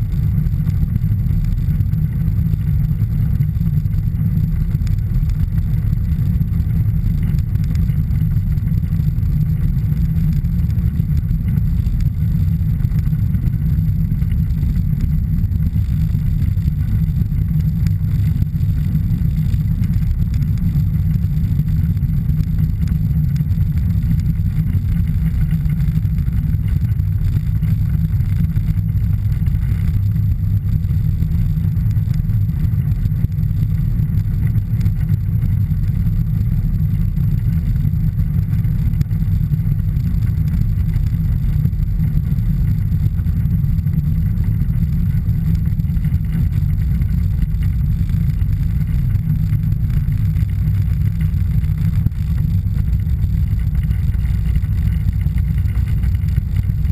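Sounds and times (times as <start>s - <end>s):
aircraft engine running low: 0.0s - 56.9s.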